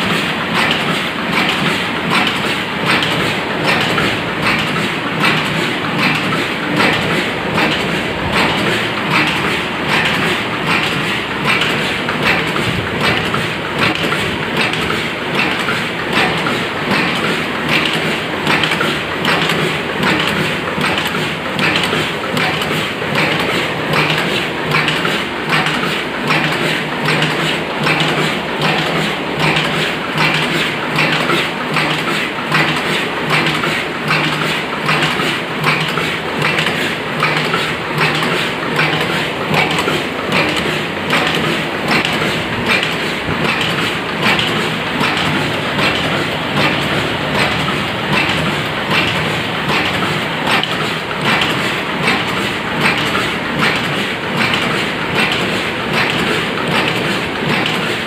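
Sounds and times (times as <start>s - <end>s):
cup forming machine clattering: 0.0s - 58.0s.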